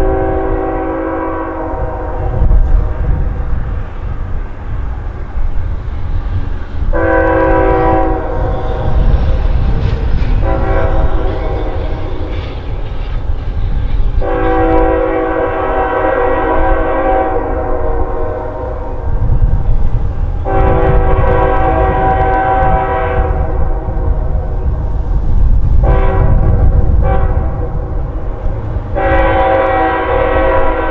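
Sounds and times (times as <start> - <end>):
train air horn blasts: 0.0 - 3.7, 6.8 - 19.4, 20.4 - 24.5, 25.7 - 30.9
low rumble of rolling train: 0.0 - 30.9.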